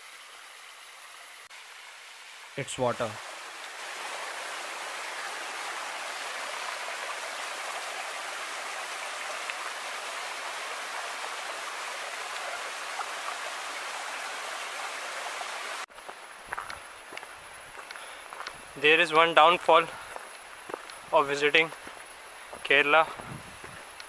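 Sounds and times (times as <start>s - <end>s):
quiet outdoor ambience: 0.0s - 24.0s
stream water rushing: 0.0s - 24.0s.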